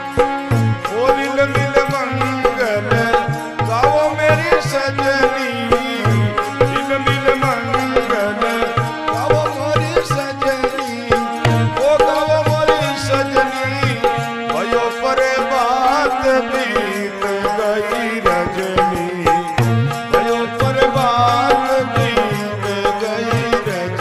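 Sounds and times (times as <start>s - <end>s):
drums keeping a steady beat: 0.0s - 24.0s.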